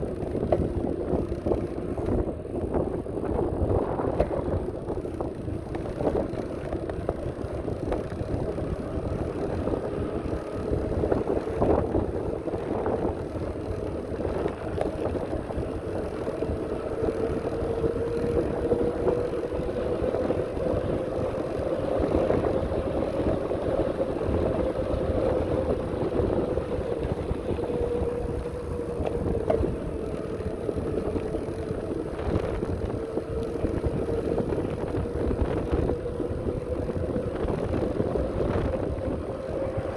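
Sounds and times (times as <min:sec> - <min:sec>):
steady whine: 0:00.0 - 0:39.9
wind buffeting microphone: 0:00.0 - 0:39.9.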